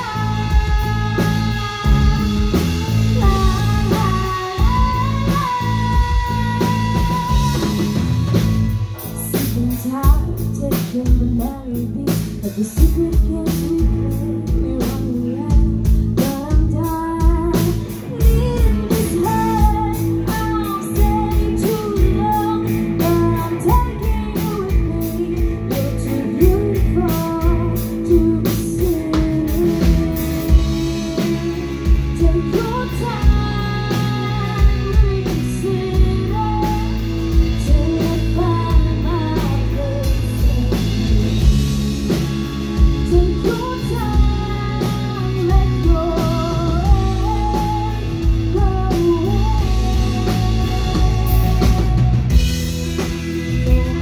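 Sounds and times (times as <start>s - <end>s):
bass: 0.0s - 54.0s
drum kit: 0.0s - 54.0s
guitars: 0.0s - 54.0s.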